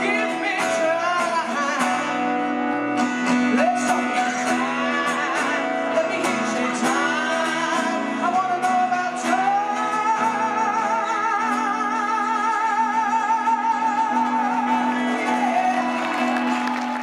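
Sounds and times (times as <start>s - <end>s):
acoustic guitar: 0.0s - 17.0s
band playing: 0.0s - 17.0s.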